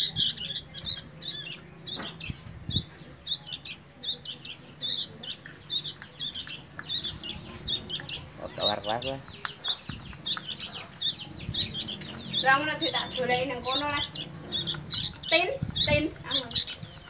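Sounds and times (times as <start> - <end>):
nestlings begging cheeps: 0.0 - 17.0.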